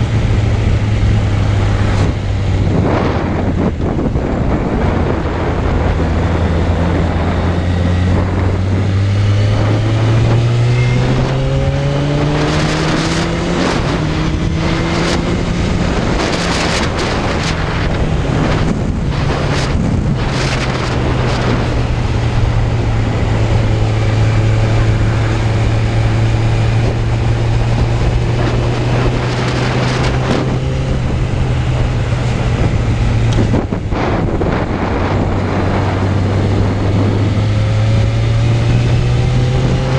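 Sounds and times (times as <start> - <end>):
motorcycle engine accelerating: 0.0 - 39.9
wind buffeting microphone: 0.0 - 39.9.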